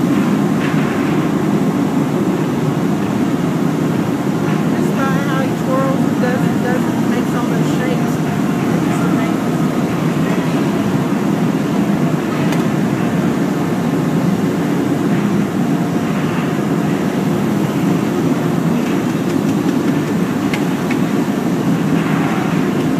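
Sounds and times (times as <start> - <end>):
furnace burners and fans roaring: 0.0 - 22.9.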